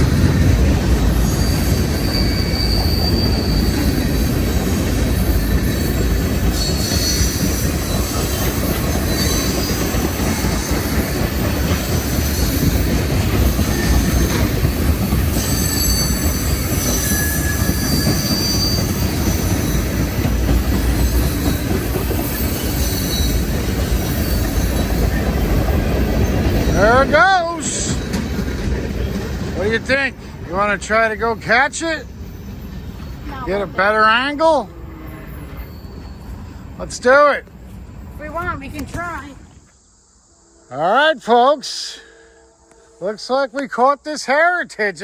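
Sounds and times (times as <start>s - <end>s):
freight train rumbling past: 0.0s - 43.6s
high-pitched wheel squeals: 0.1s - 30.0s, 30.9s - 39.2s.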